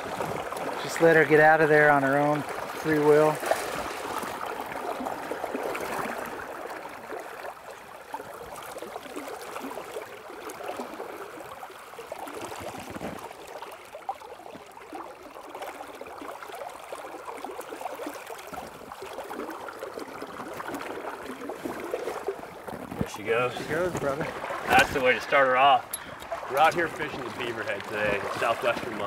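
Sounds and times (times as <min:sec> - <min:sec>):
river water lapping and splashing: 0:00.0 - 0:29.0.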